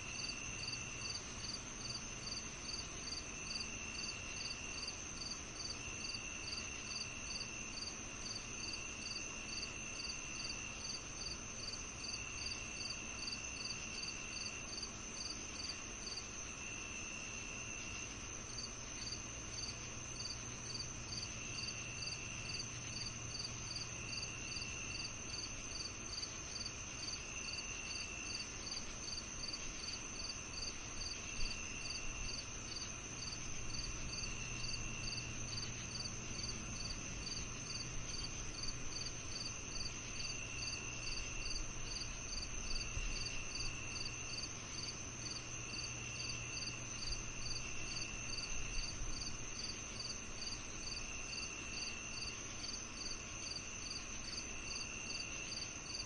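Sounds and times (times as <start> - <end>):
faint low hum: 0.0 - 56.0
high steady cricket trill: 0.0 - 56.0
lower insect trill: 0.0 - 56.0
short repeating cricket chirp: 0.1 - 56.0.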